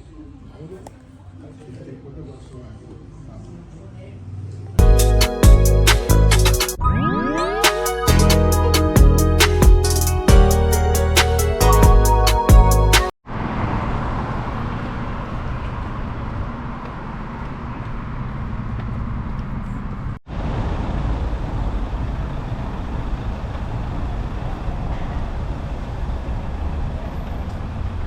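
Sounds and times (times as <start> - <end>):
road traffic passing: 3.8 - 6.8, 7.6 - 28.0.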